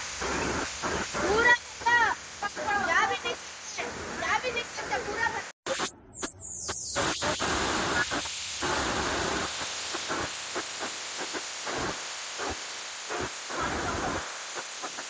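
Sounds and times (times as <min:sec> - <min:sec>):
floodwater rushing: 0:00.0 - 0:05.5, 0:07.5 - 0:15.0
heavy rain: 0:00.0 - 0:05.5, 0:07.0 - 0:15.0.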